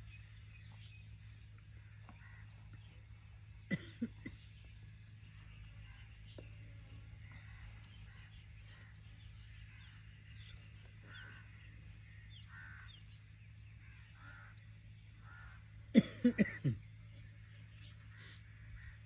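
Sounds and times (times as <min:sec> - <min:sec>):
faint bird calls: 0:00.0 - 0:19.0
low steady hum: 0:00.0 - 0:19.0.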